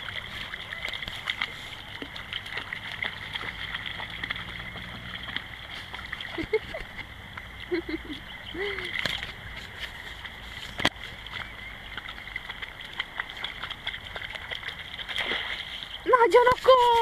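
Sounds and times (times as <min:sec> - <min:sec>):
dog wading through water: 0:00.0 - 0:17.0
shallow stream running: 0:00.0 - 0:17.0.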